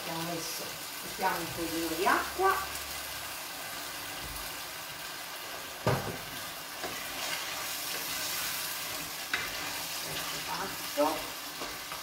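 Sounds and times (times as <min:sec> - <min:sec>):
sauce sizzling in a pot: 0:00.0 - 0:12.0.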